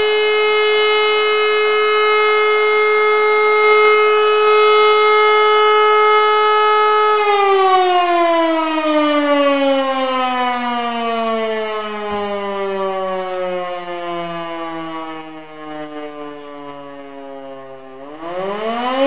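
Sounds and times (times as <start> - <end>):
motor siren winding down: 0.0 - 19.0.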